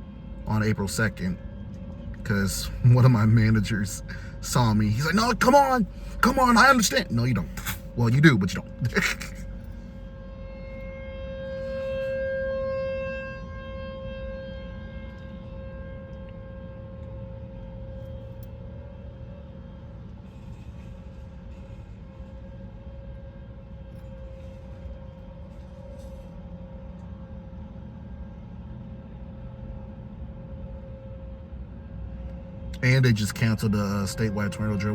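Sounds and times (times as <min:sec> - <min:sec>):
warning siren steady tone: 0:00.0 - 0:34.9.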